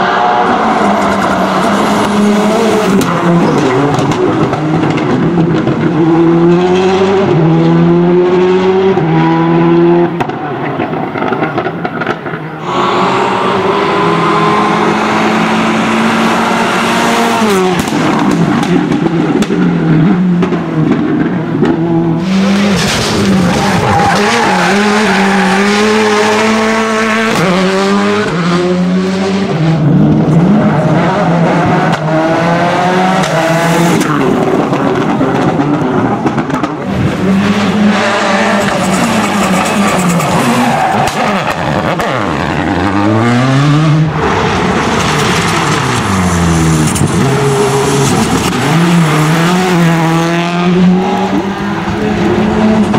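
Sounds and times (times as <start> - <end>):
rally cars passing at full throttle: 0.0 - 52.9.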